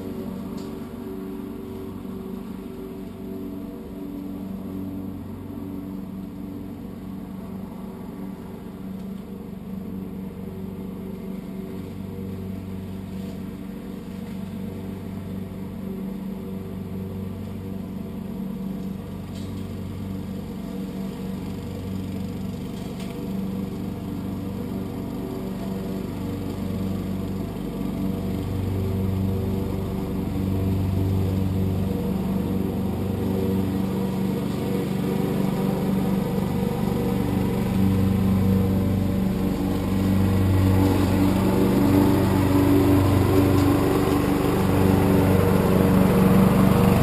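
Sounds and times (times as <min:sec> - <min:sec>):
lawn tractor engine mowing: 0:00.0 - 0:47.0.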